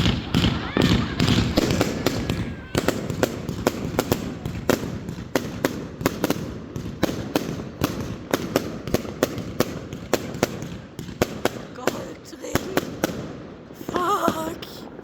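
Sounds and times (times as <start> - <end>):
firework bangs: 0.0 - 15.0
low rumble of fireworks: 0.0 - 15.0.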